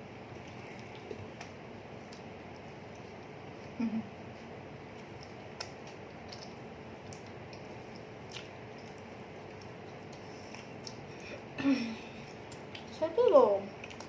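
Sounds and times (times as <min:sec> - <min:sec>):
low constant hum: 0:00.0 - 0:14.0
faint eating clicks and crackles: 0:00.2 - 0:14.0.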